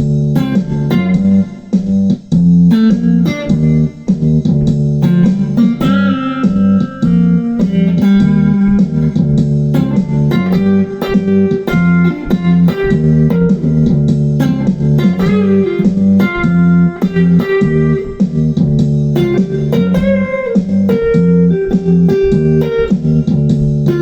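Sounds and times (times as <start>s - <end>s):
cigar box guitar plucked: 0.0s - 24.0s.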